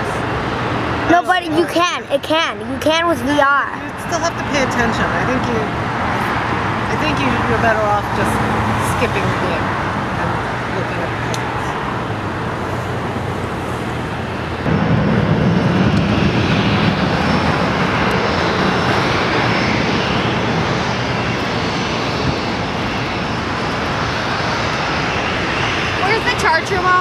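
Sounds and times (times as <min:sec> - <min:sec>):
jet engines spooling up: 0:00.0 - 0:27.0.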